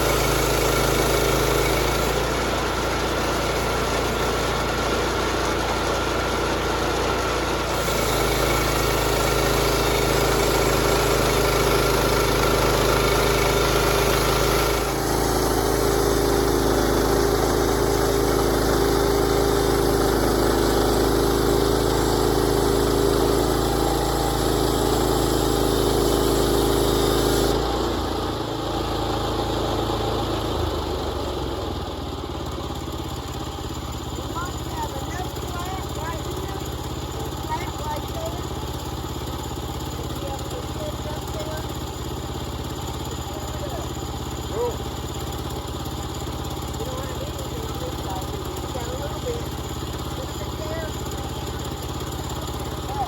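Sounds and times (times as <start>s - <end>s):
sawmill gasoline engine running: 0.0s - 53.0s.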